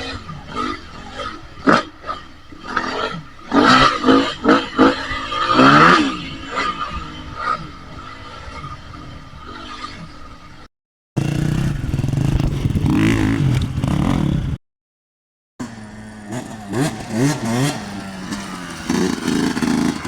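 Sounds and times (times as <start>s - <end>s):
dirt bike engine revving: 0.0s - 9.8s, 11.2s - 14.6s, 15.6s - 20.0s.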